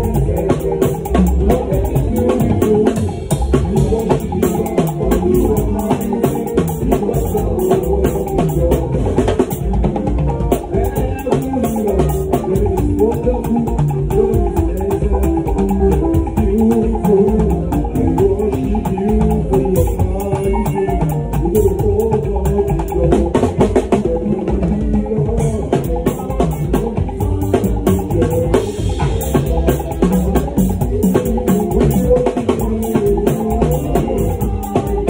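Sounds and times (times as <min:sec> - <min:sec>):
drum kit played fast: 0:00.0 - 0:35.0.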